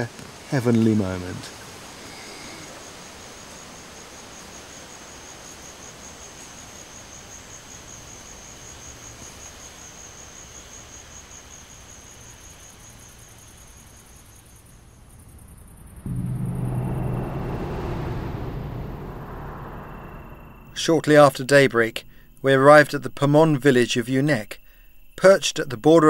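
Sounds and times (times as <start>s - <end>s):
hiss of insects: 0.0s - 15.7s, 17.2s - 26.0s
high-pitched insect call pulsing: 1.8s - 26.0s.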